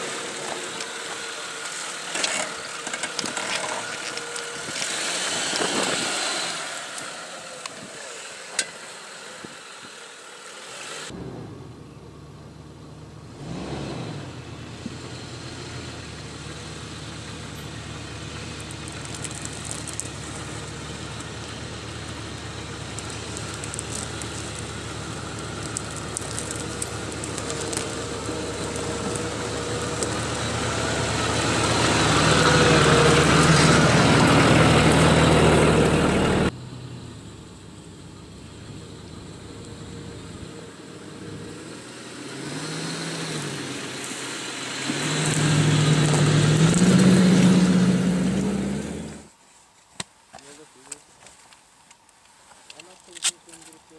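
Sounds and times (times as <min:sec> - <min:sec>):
vehicle engine running: 0:00.0 - 0:49.3.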